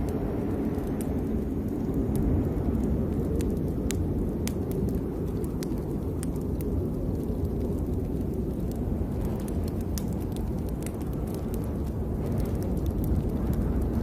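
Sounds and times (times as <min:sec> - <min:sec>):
rain falling: 0:00.0 - 0:14.0
raindrop ticks: 0:00.0 - 0:14.0.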